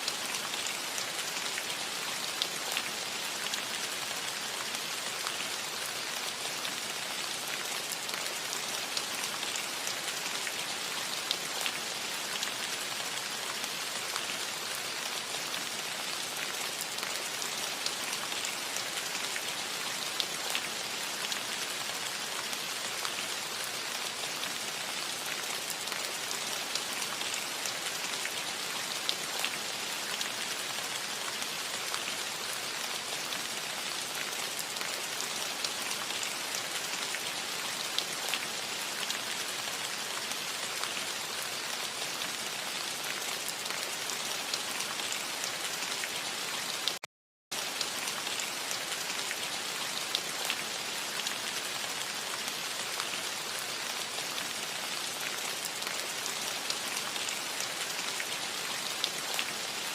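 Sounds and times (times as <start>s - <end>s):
rain pattering on a roof: 0.0s - 59.9s.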